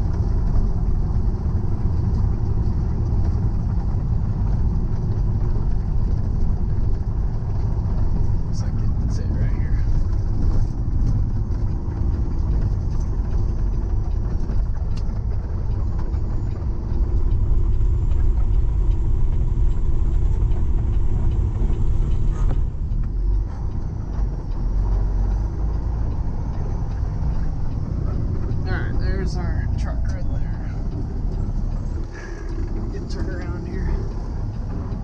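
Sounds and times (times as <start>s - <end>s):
truck engine and road noise: 0.0s - 35.0s.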